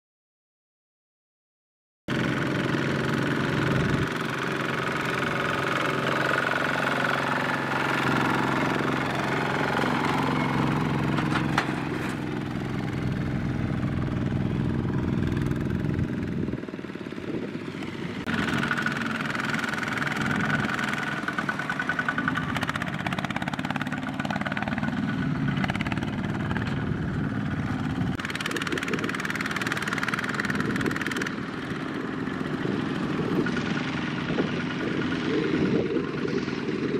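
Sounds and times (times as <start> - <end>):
diesel tractor engines running hard: 2.1 - 36.9.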